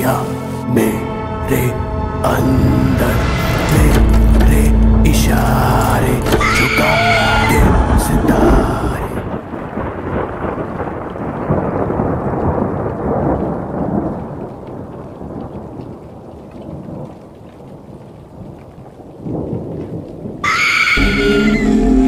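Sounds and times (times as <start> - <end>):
rolling thunder: 2.2 - 22.0.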